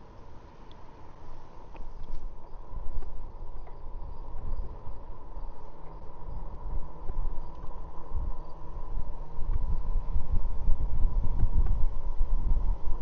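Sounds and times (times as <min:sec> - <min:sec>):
faint insect chirps: 0:00.0 - 0:13.0
steady high whine: 0:00.0 - 0:13.0
wind rumbling on microphone: 0:00.0 - 0:13.0.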